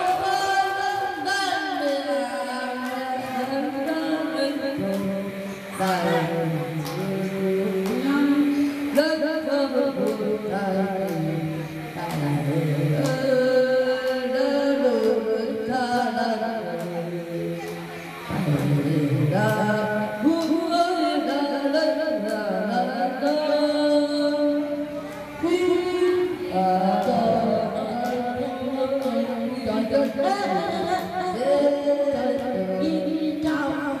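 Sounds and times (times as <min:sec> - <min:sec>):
man singing into microphone: 0:00.0 - 0:17.7, 0:18.3 - 0:24.8, 0:25.4 - 0:34.0.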